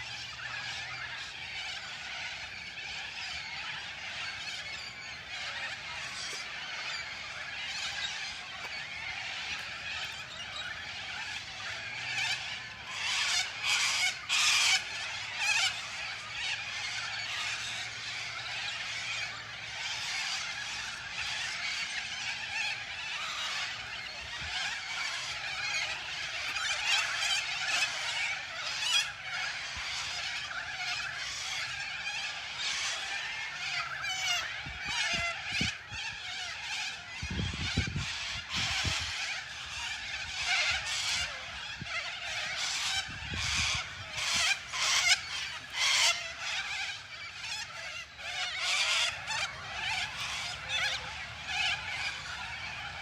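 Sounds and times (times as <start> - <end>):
frogs chirping and trilling: 0.0 - 53.0.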